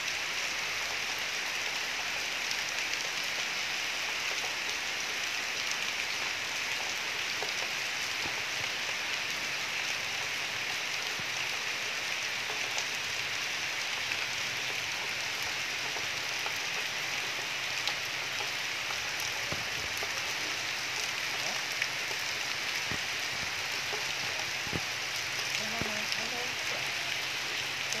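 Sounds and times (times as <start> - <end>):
steady rain on stone paving: 0.0 - 28.0.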